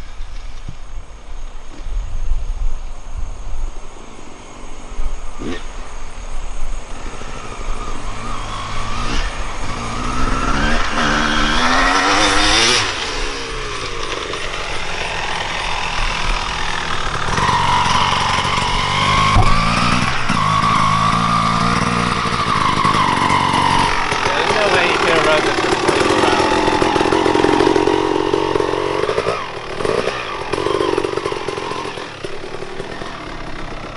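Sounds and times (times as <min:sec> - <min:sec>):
dirt bike engine revving: 0:04.7 - 0:33.9.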